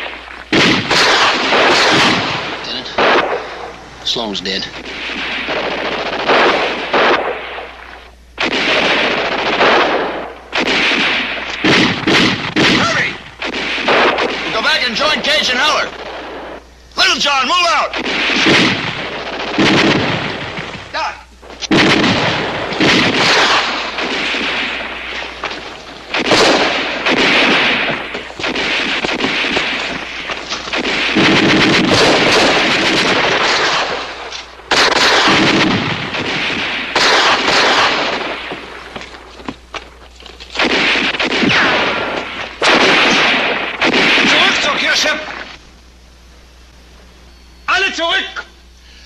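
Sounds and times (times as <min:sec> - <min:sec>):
heavy blasts: 0:00.0 - 0:39.7, 0:40.5 - 0:45.6
gunfire: 0:00.0 - 0:45.6.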